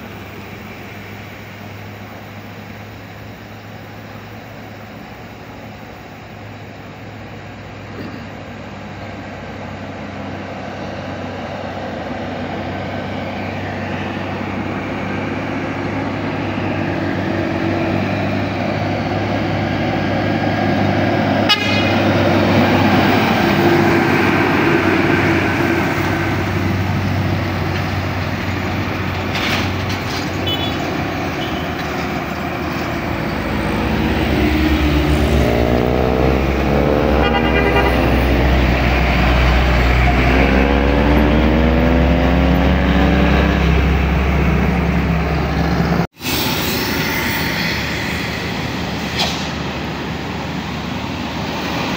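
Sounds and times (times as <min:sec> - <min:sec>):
heavy vehicle engine droning: 0:00.0 - 0:51.9.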